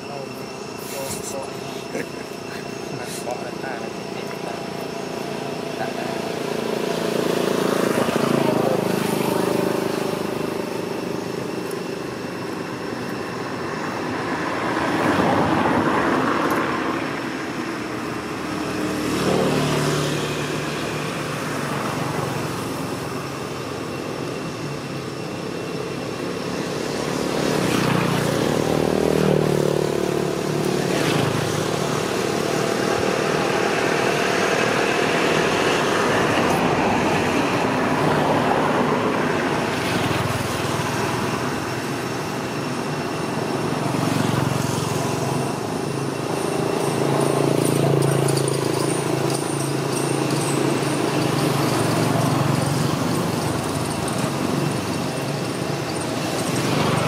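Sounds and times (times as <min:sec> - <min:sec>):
steady background hiss: 0:00.0 - 0:48.3
vehicle engines passing: 0:00.0 - 0:57.0.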